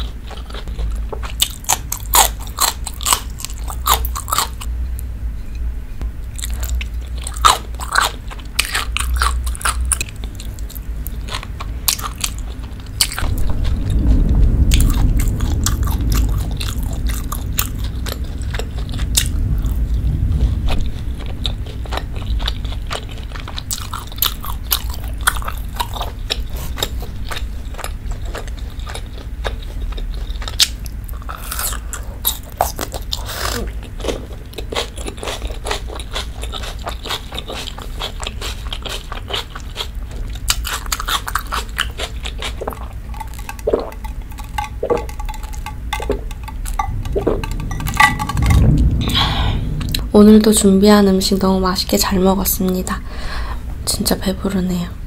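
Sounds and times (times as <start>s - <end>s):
chewing and biting food: 0.0s - 4.7s, 6.4s - 14.1s, 14.7s - 48.8s
steady low rumble: 0.0s - 37.0s, 39.9s - 55.0s.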